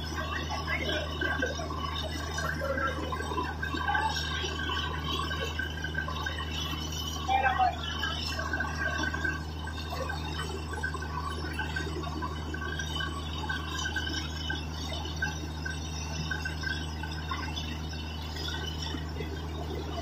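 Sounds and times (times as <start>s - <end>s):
drilling rig droning: 0.0s - 20.0s.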